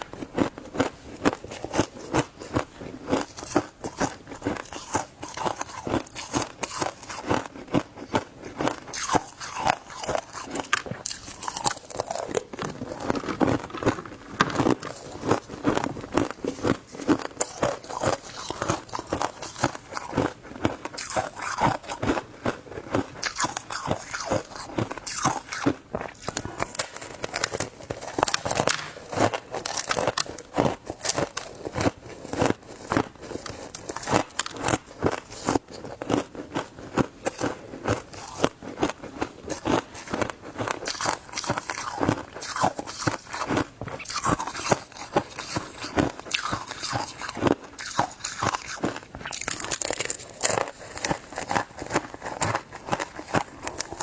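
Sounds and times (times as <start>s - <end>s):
ice crunching being chewed: 0.0s - 54.0s.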